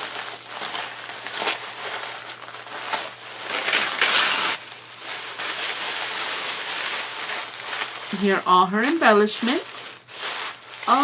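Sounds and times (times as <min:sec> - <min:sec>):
wrapping crinkling and tearing: 0:00.0 - 0:11.0.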